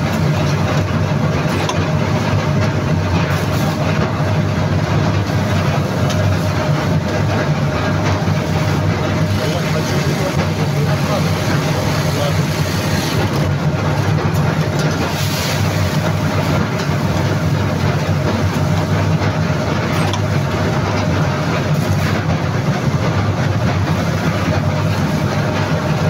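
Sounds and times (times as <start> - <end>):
machinery droning: 0.0 - 26.0.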